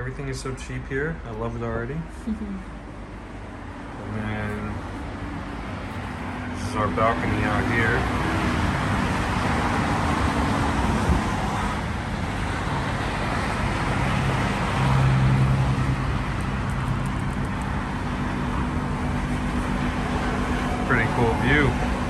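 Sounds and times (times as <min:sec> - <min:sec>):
road traffic noise: 0:00.0 - 0:22.0
heavy vehicle engine hum: 0:01.1 - 0:22.0.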